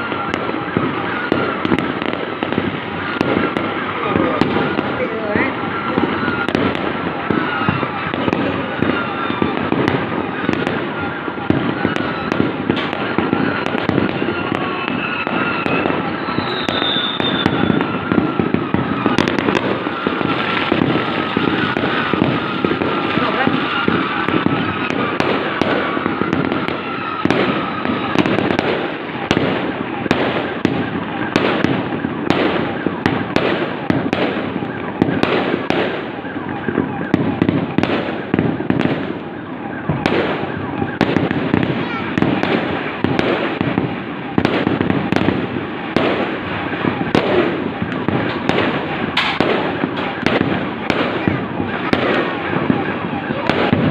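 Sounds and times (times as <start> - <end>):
crowd noise: 0.0 - 53.9
fireworks crackling and popping: 0.0 - 53.9
high firework whistle: 0.0 - 53.9.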